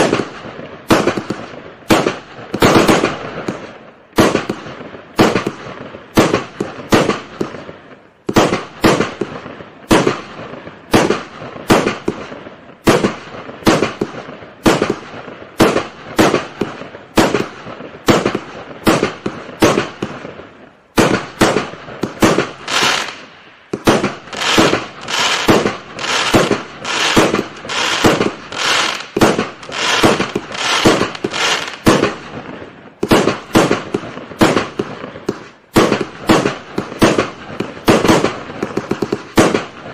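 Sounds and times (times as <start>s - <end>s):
fireworks cake firing: 0.0s - 39.9s.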